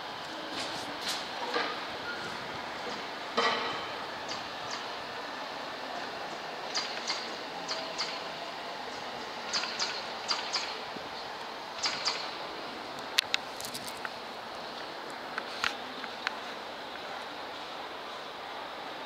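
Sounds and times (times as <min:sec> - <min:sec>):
railway station background noise: 0:00.0 - 0:19.0.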